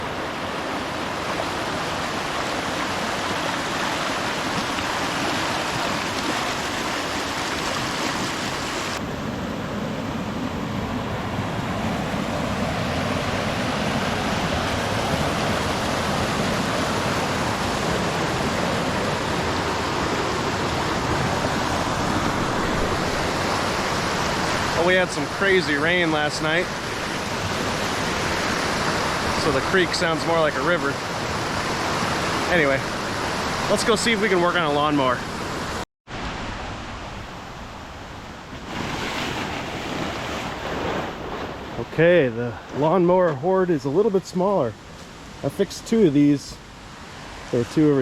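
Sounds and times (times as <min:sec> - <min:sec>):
creek rushing: 0:00.0 - 0:48.0.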